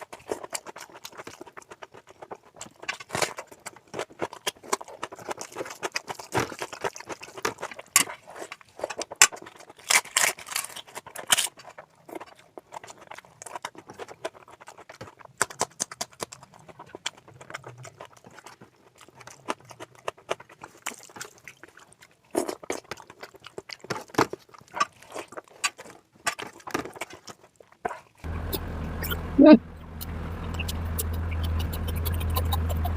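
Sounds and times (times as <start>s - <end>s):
wet chewing and lip-smacking: 0.0s - 32.9s.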